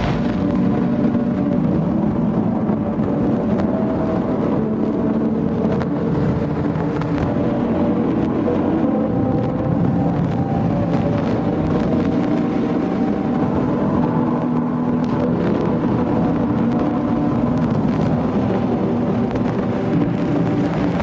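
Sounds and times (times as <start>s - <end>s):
dark ambient drone music: 0.0s - 21.0s.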